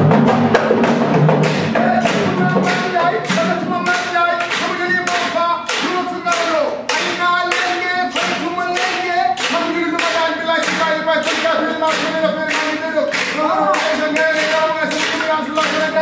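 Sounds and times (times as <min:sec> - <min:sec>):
sharp drum strikes: 0:00.0 - 0:16.0
voices singing a held melody: 0:01.6 - 0:16.0.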